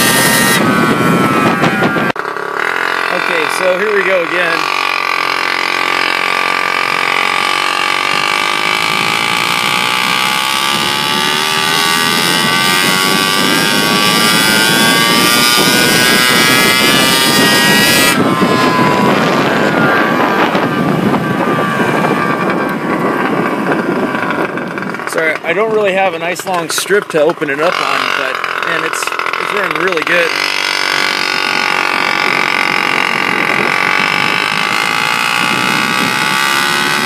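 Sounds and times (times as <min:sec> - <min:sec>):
scooter engine accelerating: 0:00.0 - 0:37.0
wind rush on microphone: 0:00.0 - 0:37.0.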